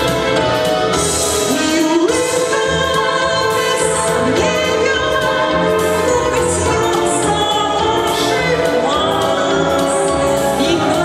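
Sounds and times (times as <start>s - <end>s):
instrumental accompaniment: 0.0s - 11.0s
woman singing into microphone: 1.4s - 11.0s.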